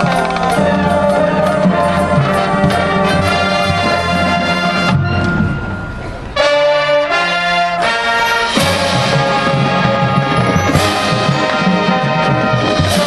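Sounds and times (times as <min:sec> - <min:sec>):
brass chords: 0:00.0 - 0:13.0
marching band playing: 0:00.0 - 0:13.0.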